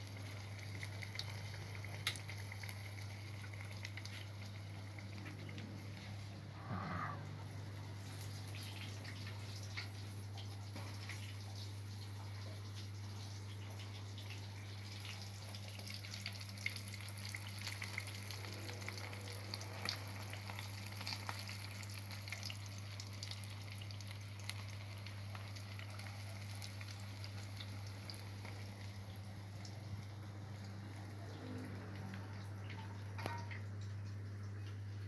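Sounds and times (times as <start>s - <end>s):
food frying in hot oil: 0.0s - 35.0s
low electrical hum: 0.0s - 35.0s.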